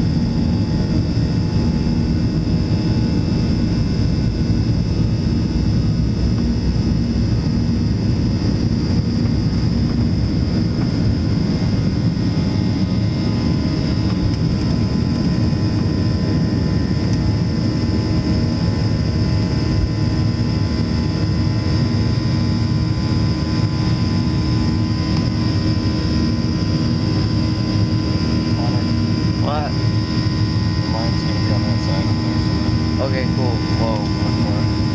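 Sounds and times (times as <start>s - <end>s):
high jet engine whine: 0.0s - 34.9s
jet engine cabin rumble: 0.0s - 34.9s.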